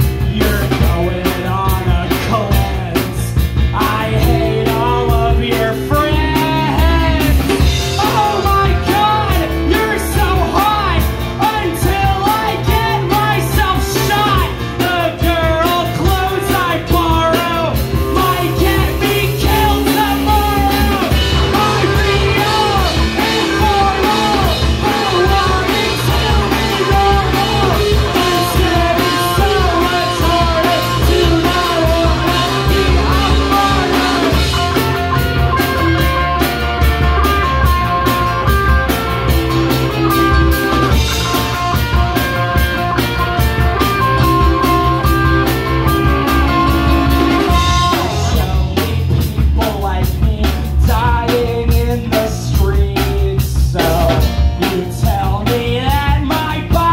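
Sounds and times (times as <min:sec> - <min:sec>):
person singing: 0:00.0 - 0:42.0, 0:43.3 - 0:56.9
electric guitar: 0:00.0 - 0:51.4
drum kit: 0:00.0 - 0:56.9
keyboard: 0:00.0 - 0:56.9.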